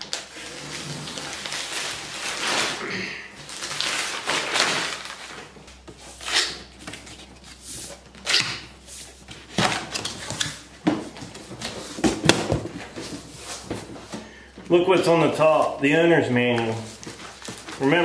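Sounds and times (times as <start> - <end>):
plastic wrap rustling: 0.0 - 18.0.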